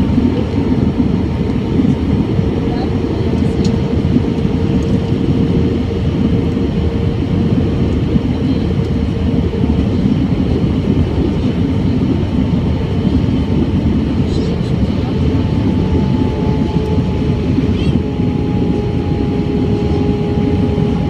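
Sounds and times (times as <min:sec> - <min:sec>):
roar of engines and airflow: 0:00.0 - 0:21.0
steady hum: 0:00.0 - 0:21.0.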